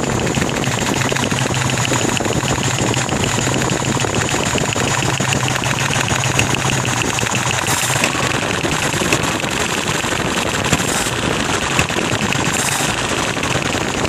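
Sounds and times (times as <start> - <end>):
engine idling with knocking: 0.0 - 14.0.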